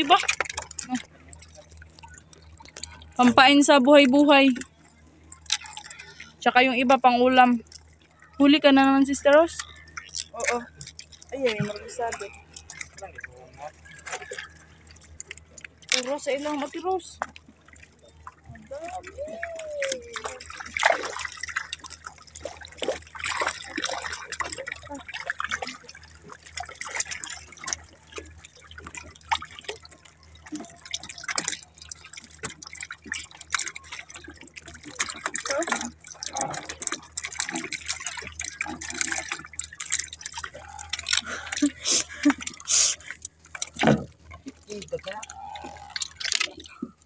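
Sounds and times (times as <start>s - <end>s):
small patters and clicks: 0.0s - 47.0s
water dripping and splashing: 0.0s - 47.0s.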